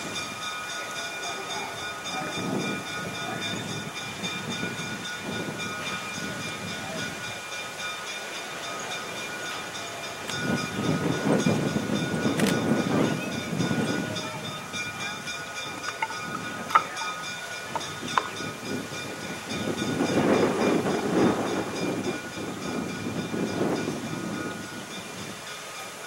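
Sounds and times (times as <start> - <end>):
electric locomotive whine: 0.0 - 26.0
train rolling rumble: 0.0 - 26.0.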